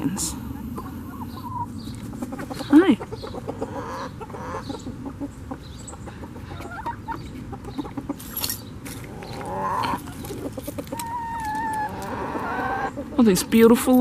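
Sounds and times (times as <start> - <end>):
chickens clucking and calling: 0.0 - 13.7.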